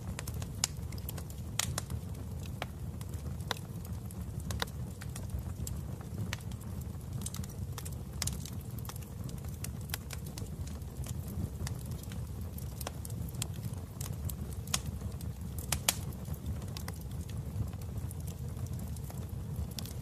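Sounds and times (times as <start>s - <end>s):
fire crackling and popping: 0.0s - 20.0s
wood fire rumbling: 0.0s - 20.0s.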